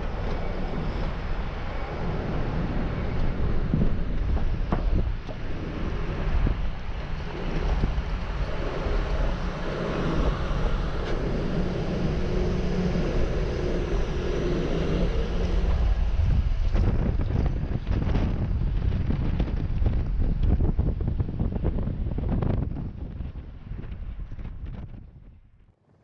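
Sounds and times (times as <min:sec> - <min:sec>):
low engine drone: 0:00.0 - 0:25.0
wind buffeting microphone: 0:00.0 - 0:25.7.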